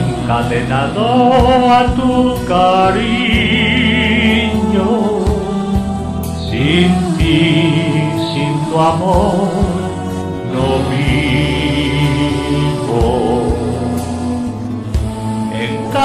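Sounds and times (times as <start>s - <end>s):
instrumental backing with bass: 0.0s - 16.0s
person singing with vibrato: 0.0s - 16.0s.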